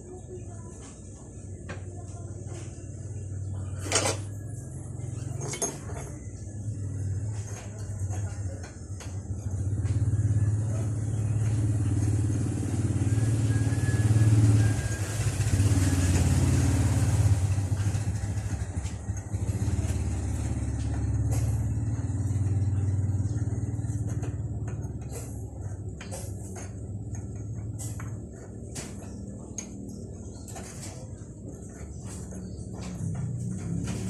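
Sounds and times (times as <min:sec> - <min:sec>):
motorcycle engine running: 0:02.0 - 0:34.0.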